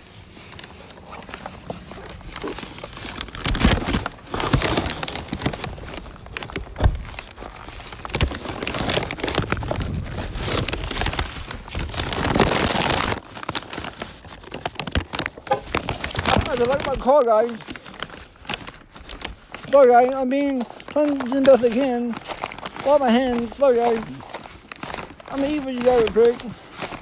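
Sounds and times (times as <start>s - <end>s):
rustling against microphone: 0.0s - 27.0s.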